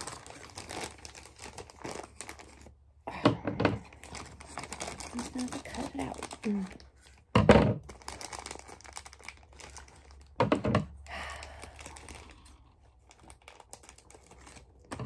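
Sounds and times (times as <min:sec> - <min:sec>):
plastic packaging rustling: 0:00.0 - 0:02.9, 0:03.6 - 0:15.0.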